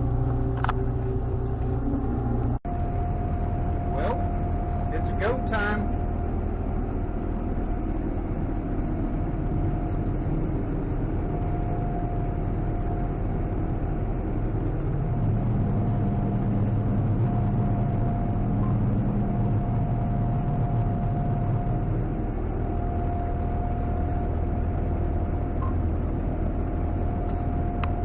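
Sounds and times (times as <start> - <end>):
combine engine rumble: 0.0 - 28.0
thin steady whine: 0.0 - 28.0.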